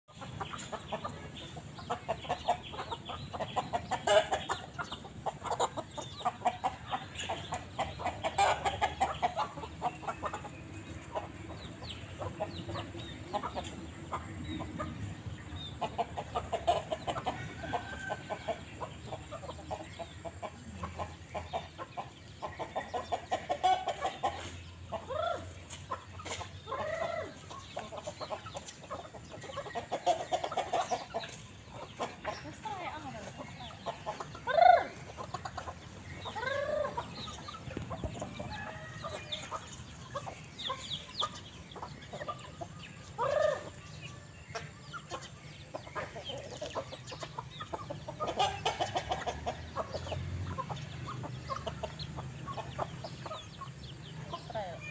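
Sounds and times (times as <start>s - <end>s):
young chickens clucking: 0.1s - 54.9s.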